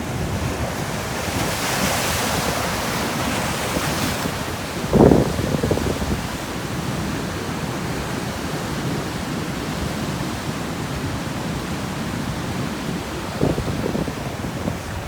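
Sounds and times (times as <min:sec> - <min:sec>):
surf roaring on rocky shore: 0:00.0 - 0:15.0.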